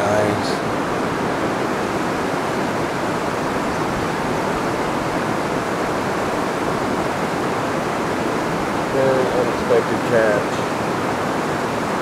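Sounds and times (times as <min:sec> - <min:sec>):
river water rushing over rapids: 0:00.0 - 0:12.0.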